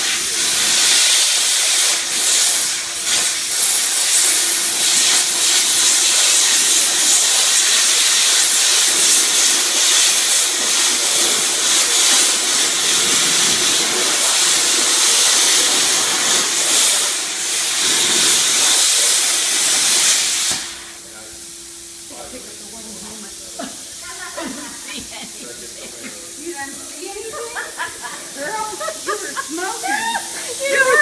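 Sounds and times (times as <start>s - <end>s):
plasma cutter hissing: 0.0s - 31.0s.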